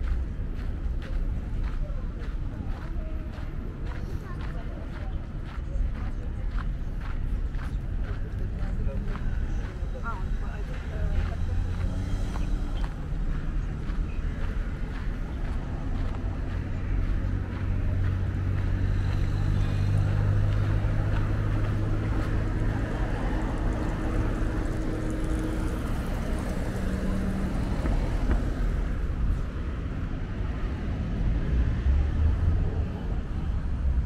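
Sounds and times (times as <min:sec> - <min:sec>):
city street noise: 0:00.0 - 0:34.0
vehicle engine humming: 0:00.0 - 0:34.0.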